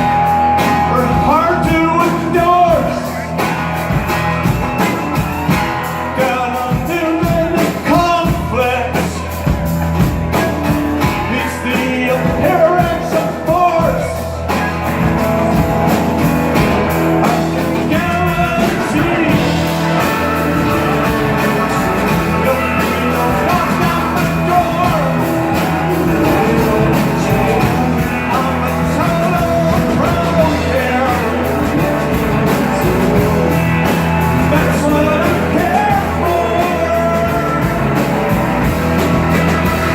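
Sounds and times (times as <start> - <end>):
person singing: 0.0 - 3.8, 4.8 - 9.4, 11.0 - 14.6, 16.6 - 38.6
bass guitar: 0.0 - 39.9
drums: 0.0 - 39.9
electric guitar: 0.0 - 39.9.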